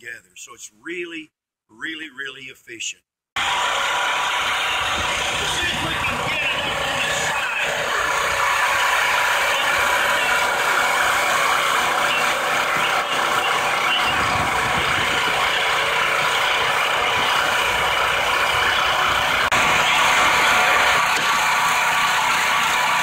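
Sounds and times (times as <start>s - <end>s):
small gas engine running: 3.4s - 23.0s.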